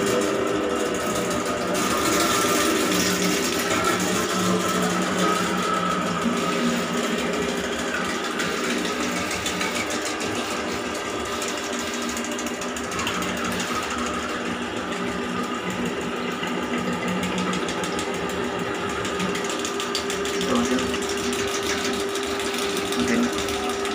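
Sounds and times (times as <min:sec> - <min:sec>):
drain cleaning machine motor humming: 0:00.0 - 0:23.9
turning cable rattling: 0:00.0 - 0:23.9.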